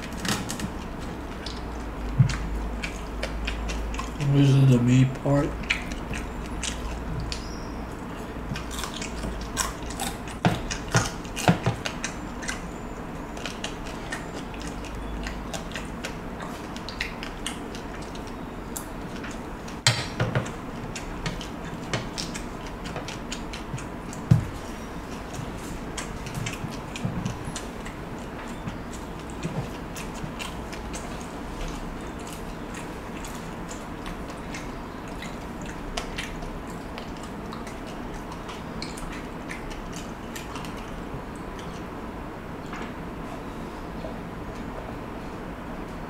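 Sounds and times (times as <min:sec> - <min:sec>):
person chewing crispy food: 0:00.0 - 0:19.8, 0:20.4 - 0:42.0.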